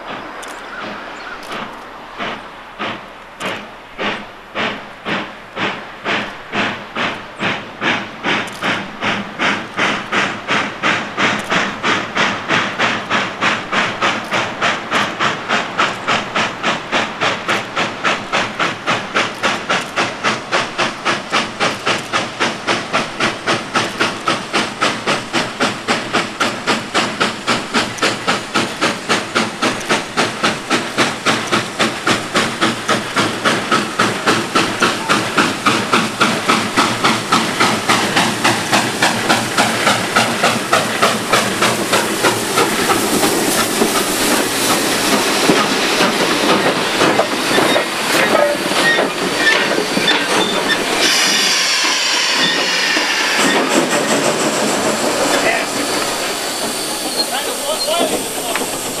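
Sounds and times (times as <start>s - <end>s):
steam locomotive chuffing: 0.0s - 59.0s.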